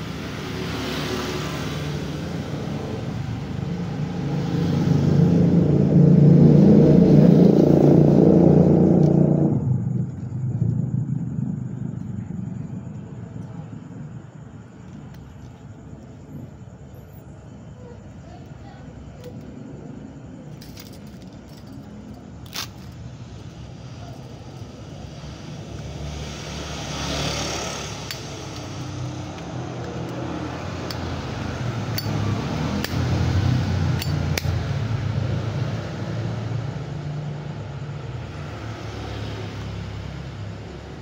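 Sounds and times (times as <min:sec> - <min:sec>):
low traffic rumble: 0:00.0 - 0:41.0.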